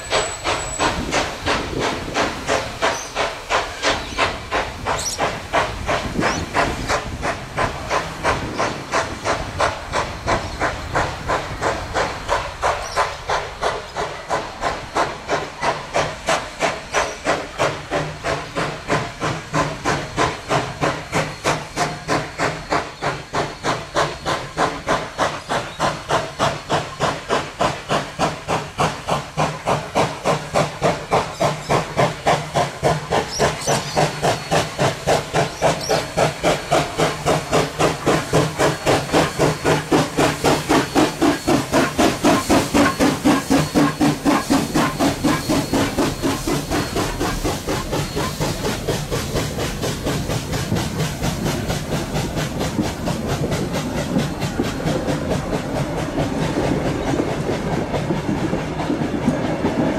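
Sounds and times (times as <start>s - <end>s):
hiss of steam: 0.0s - 59.9s
steam locomotive exhaust chuffing: 0.0s - 59.9s.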